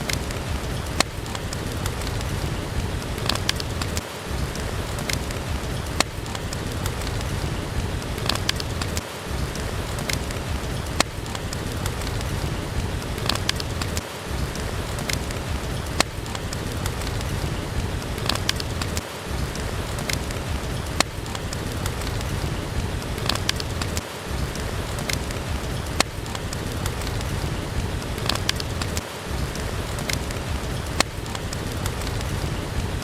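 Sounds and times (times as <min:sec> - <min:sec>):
steady rain: 0:00.0 - 0:33.0
wood fire crackling: 0:00.0 - 0:33.0.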